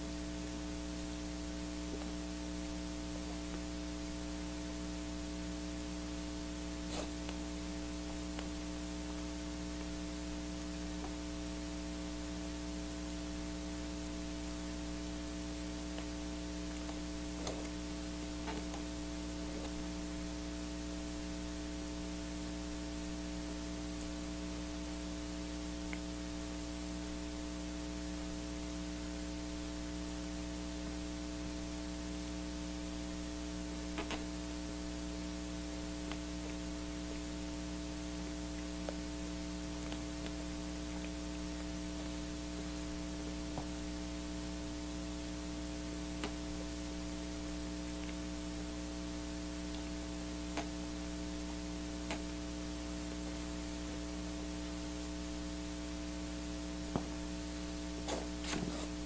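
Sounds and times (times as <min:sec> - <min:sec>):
electrical mains hum: 0:00.0 - 0:59.0
recording hiss: 0:00.0 - 0:59.0.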